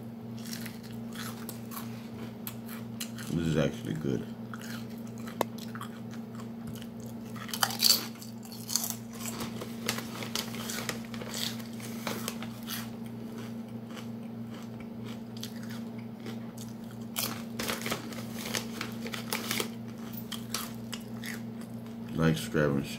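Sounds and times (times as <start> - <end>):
steady low hum: 0.0 - 22.9
chips crunching: 0.4 - 22.2.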